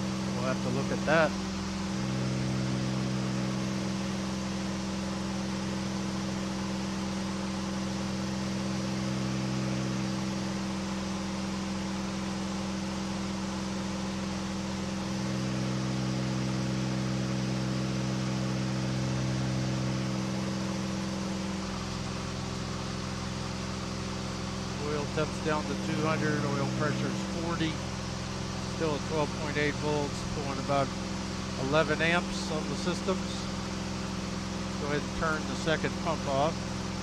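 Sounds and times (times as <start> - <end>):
light aircraft engine droning: 0.0 - 37.0.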